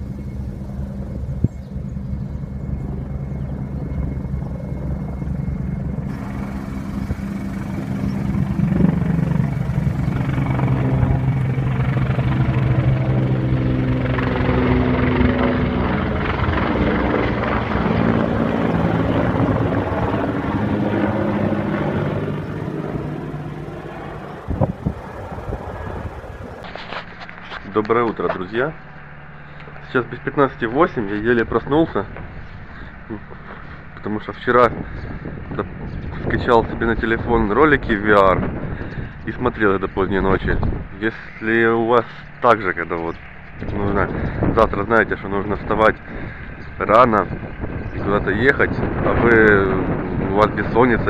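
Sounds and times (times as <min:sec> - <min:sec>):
helicopter flying over: 0:00.0 - 0:51.0.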